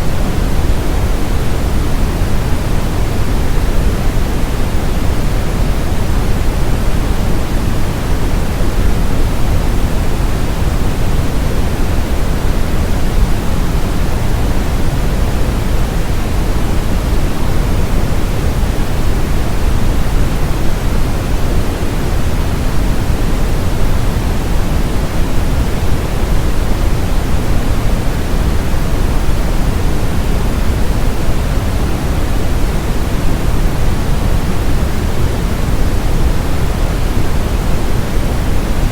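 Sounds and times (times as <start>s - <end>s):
brown noise hiss: 0.0s - 38.9s.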